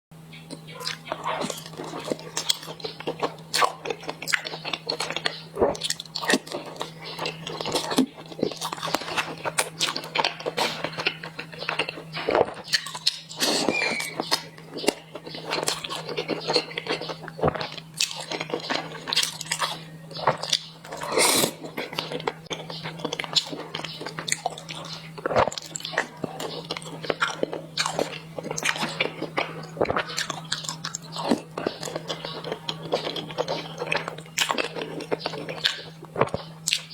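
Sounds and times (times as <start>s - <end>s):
steady low hum: 0.1s - 36.9s
person chewing with wet smacks: 0.5s - 36.9s.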